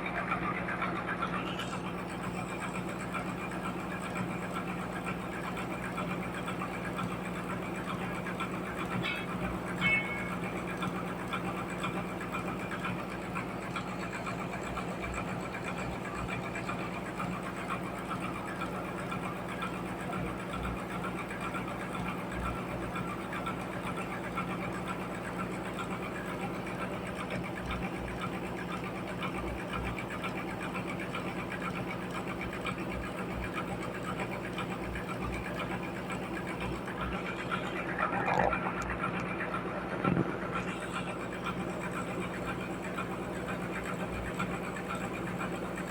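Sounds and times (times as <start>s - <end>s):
sawmill machinery hum: 0.0s - 45.9s.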